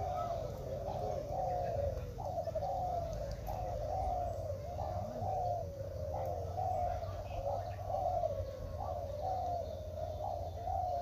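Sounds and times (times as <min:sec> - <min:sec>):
doves cooing: 0:00.0 - 0:11.0.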